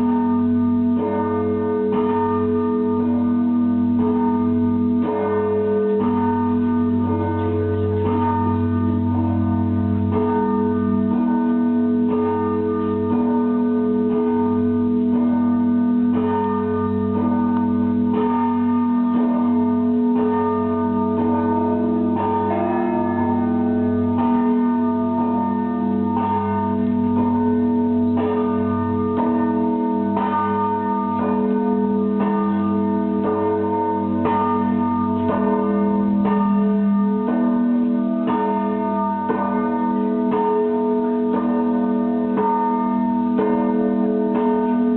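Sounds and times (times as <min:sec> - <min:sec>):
deep hum of large bells: 0:00.0 - 0:44.9.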